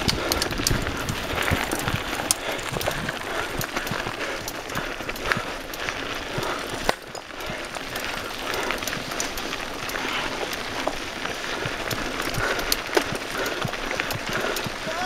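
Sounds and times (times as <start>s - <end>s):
tyres crunching over stones: 0.0s - 15.0s.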